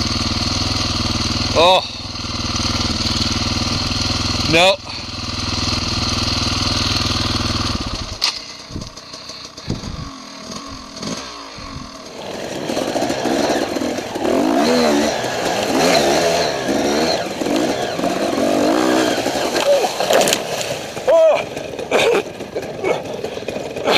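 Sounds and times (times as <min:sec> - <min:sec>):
dirt bike engine running: 0:00.0 - 0:23.9
motorcycle engines revving: 0:00.0 - 0:23.9.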